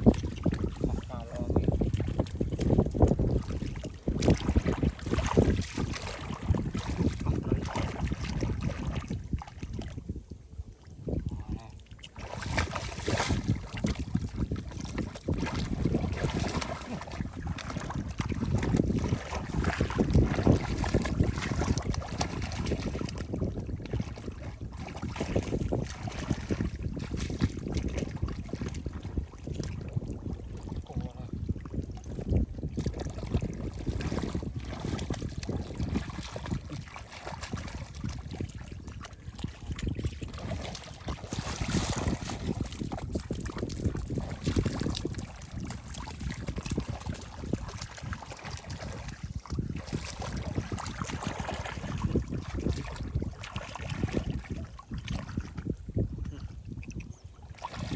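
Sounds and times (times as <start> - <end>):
splashing in shallow water: 0.0 - 57.9.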